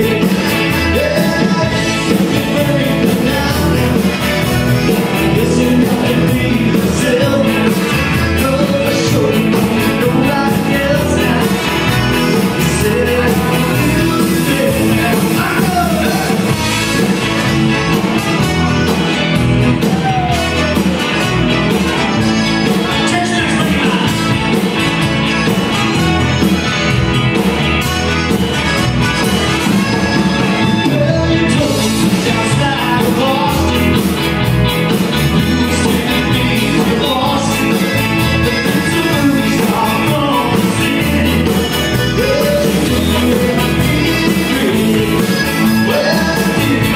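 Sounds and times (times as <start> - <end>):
person singing lead vocal: 0.0 - 24.7, 29.8 - 46.9
live rock band playing: 0.0 - 46.9.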